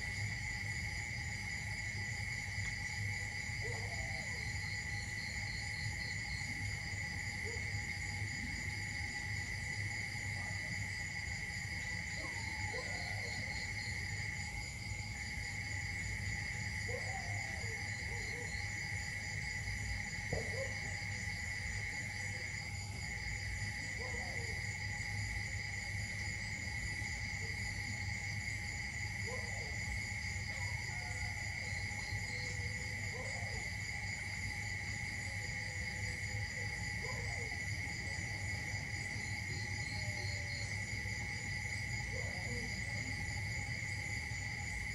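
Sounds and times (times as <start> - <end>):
shrill insect chorus: 0.0 - 44.9.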